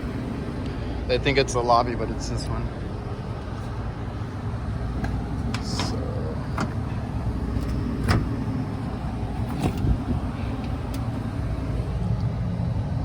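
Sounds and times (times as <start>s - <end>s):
air conditioning units rumbling: 0.0s - 13.0s.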